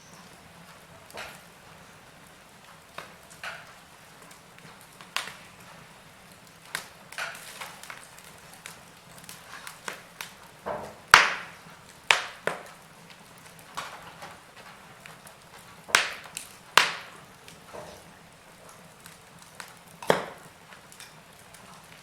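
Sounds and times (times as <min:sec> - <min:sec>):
faint fire hiss: 0:00.0 - 0:22.0
wood fire crackling and popping: 0:00.0 - 0:22.0.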